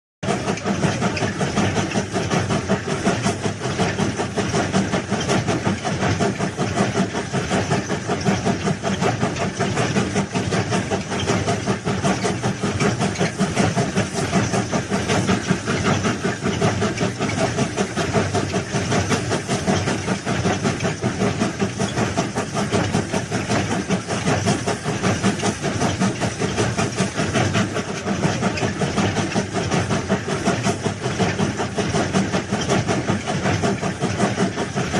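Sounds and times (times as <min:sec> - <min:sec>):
heavy machinery engine pulsing: 0:00.2 - 0:34.9.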